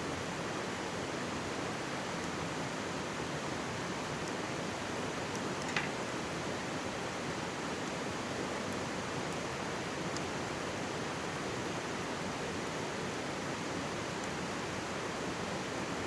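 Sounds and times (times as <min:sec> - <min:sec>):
mountain stream rushing: 0:00.1 - 0:16.0.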